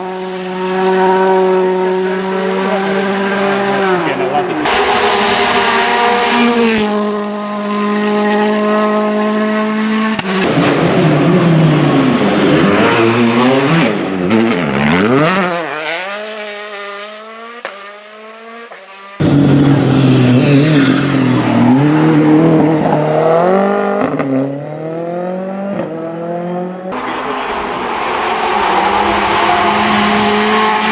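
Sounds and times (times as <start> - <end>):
rally car engines at high revs: 0.0 - 30.9.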